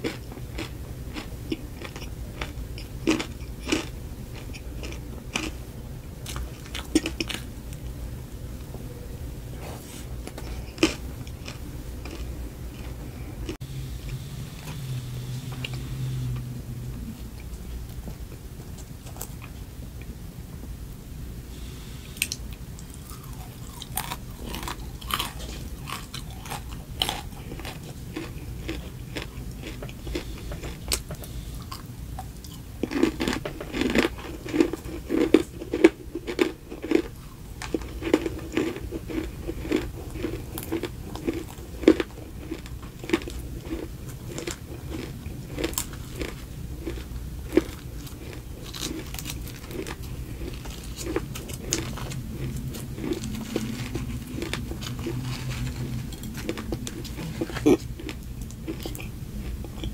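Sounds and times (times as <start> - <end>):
crunchy chewing: 0.0 - 5.6, 6.2 - 8.0, 9.6 - 16.5, 22.2 - 59.9.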